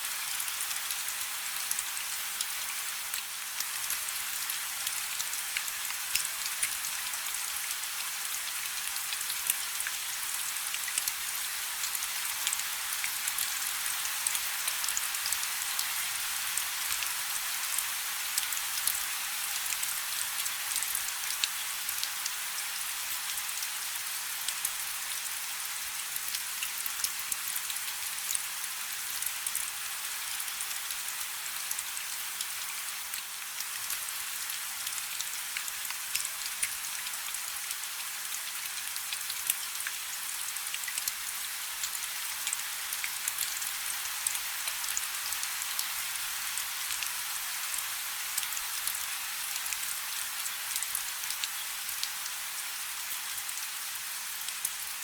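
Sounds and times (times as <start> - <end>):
rain falling on water: 0.0 - 55.0.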